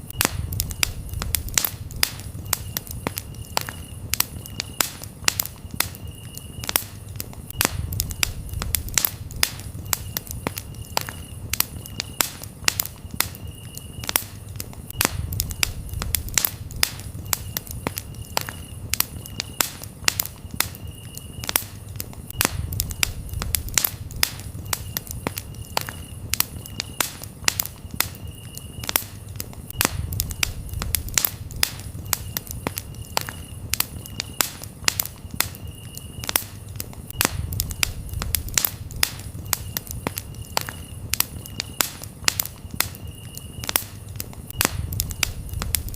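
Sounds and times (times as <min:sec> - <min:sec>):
campfire crackling and popping: 0:00.0 - 0:45.9
crickets chirping: 0:00.0 - 0:45.9.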